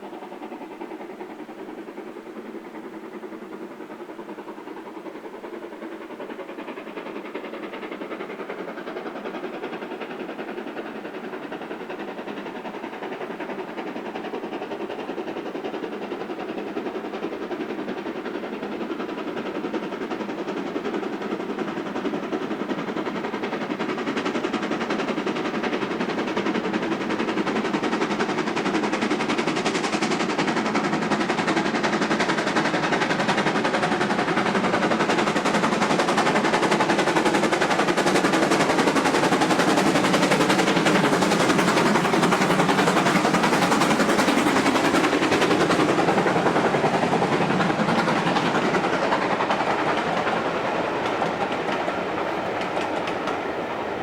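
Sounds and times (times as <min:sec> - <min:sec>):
steam locomotive exhaust beats: 0:00.0 - 0:54.0.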